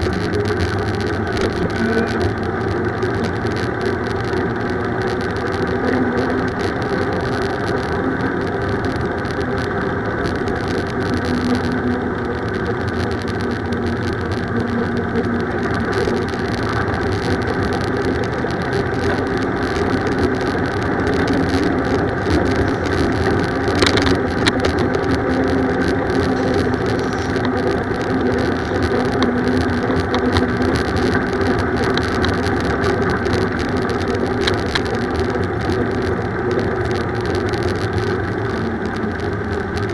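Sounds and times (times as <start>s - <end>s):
bicycle road noise in traffic: 0.0s - 39.9s.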